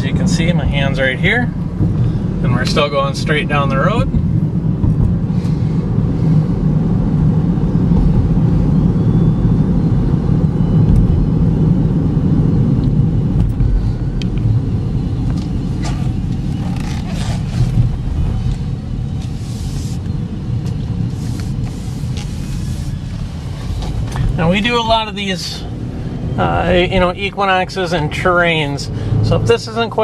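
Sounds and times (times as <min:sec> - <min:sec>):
car engine hum: 0:00.0 - 0:30.0
road and tyre rumble: 0:00.0 - 0:30.0.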